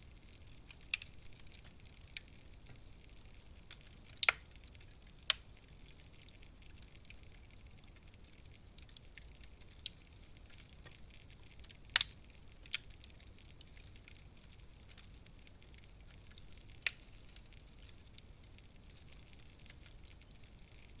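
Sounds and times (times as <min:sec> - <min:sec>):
fire crackles and pops: 0:00.0 - 0:21.0.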